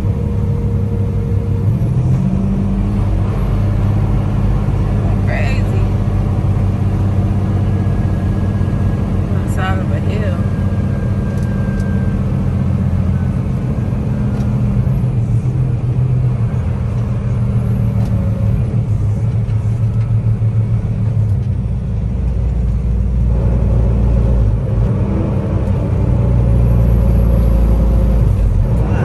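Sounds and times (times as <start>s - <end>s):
truck diesel engine droning: 0.0s - 29.0s.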